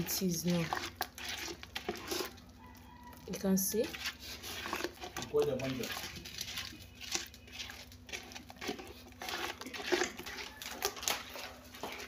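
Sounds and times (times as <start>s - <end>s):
wet squishing of hand stirring sauce: 0.0s - 12.0s.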